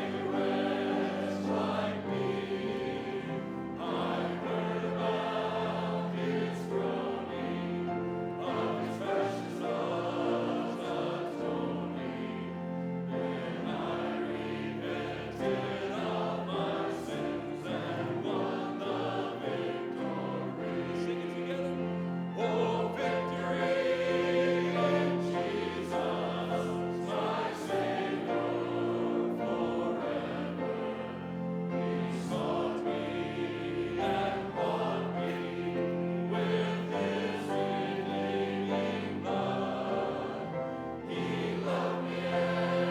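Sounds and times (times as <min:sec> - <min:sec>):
voices singing a hymn: 0:00.0 - 0:42.9.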